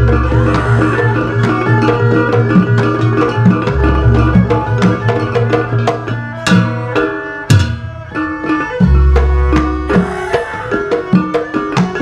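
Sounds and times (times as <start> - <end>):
hand drums playing quick rhythm: 0.0 - 12.0
violin: 0.0 - 12.0.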